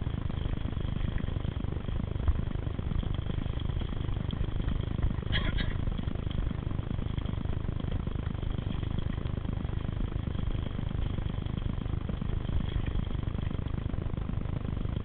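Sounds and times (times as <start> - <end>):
mountain bikes rumbling on dirt: 0.0 - 15.0.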